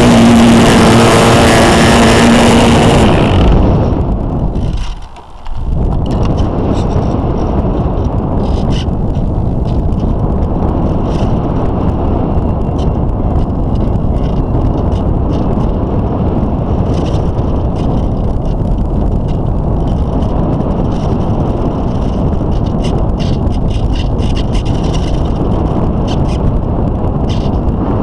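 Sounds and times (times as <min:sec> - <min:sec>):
wind rushing over model plane: 0:00.0 - 0:28.0
faint ticks and rattles: 0:04.5 - 0:27.7.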